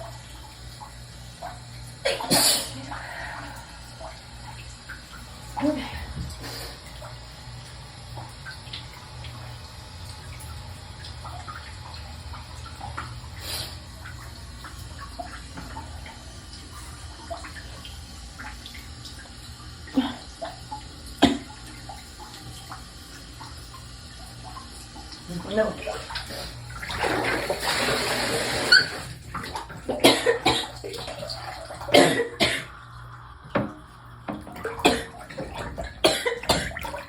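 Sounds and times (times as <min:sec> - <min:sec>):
low steady hum: 0:00.0 - 0:37.0
water sloshing and dripping: 0:00.0 - 0:37.0.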